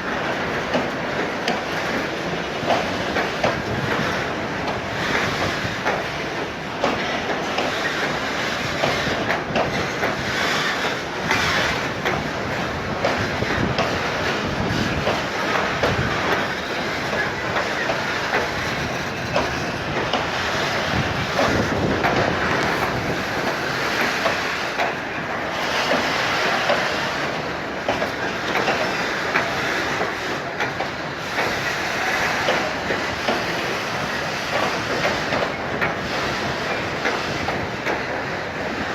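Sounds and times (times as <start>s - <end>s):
steady rushing noise: 0.0s - 38.9s
train wheels clacking over rail joints: 0.0s - 38.9s.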